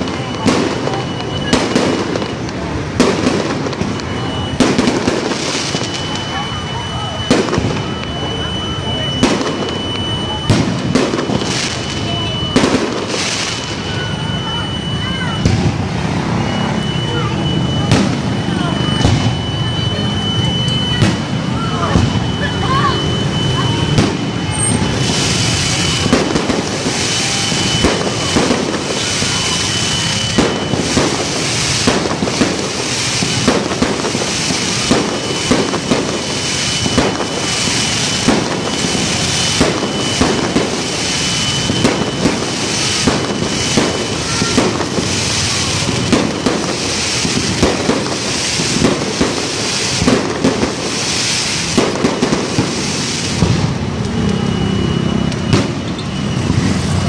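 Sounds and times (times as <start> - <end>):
fireworks bangs: 0.0 - 57.0
fireworks crackling and hiss: 0.0 - 57.0.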